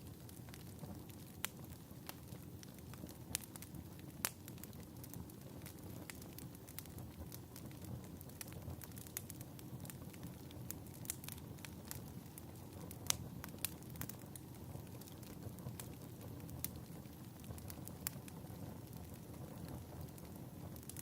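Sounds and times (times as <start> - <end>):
fireplace crackling: 0.0 - 21.0
low rumble of burning logs: 0.0 - 21.0.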